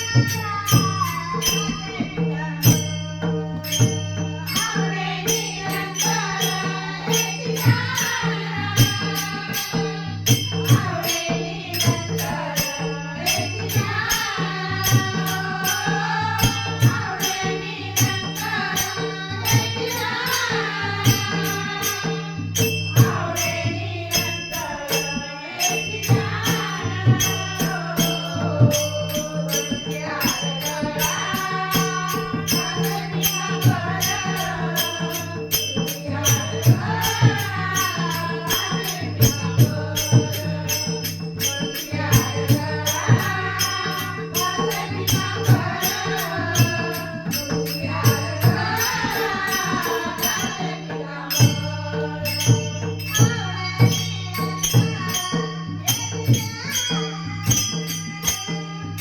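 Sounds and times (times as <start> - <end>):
woman singing: 0.0 - 59.0.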